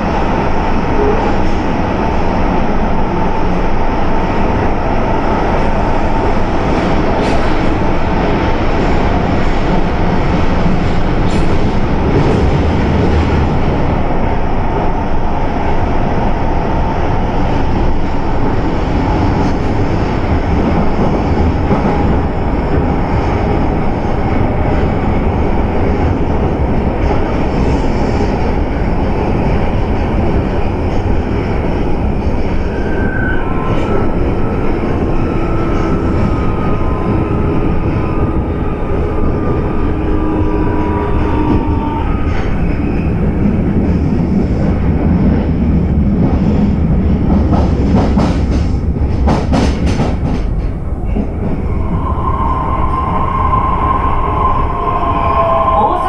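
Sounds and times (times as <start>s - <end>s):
subway train wheels rumbling: 0.0s - 56.0s.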